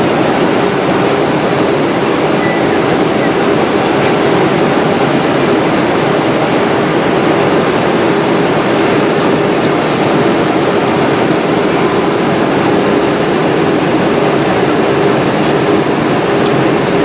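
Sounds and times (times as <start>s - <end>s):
jet airliner cabin noise: 0.0s - 17.0s.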